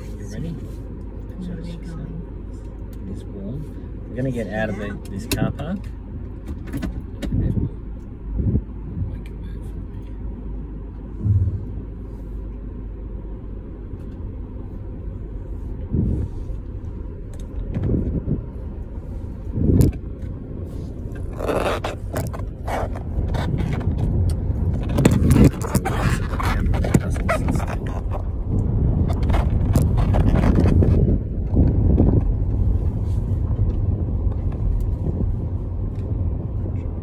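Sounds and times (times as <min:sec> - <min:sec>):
car engine and tyres rumbling: 0:00.0 - 0:37.0.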